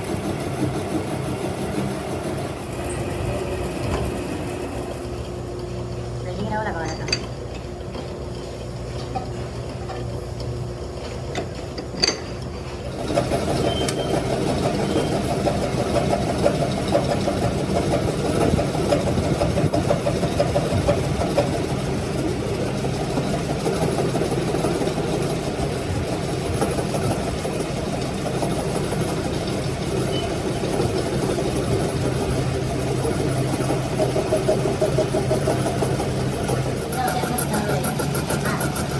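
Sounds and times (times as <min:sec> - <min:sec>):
rough mechanical running sound: 0:00.0 - 0:38.9
steady machine hum: 0:00.0 - 0:38.9.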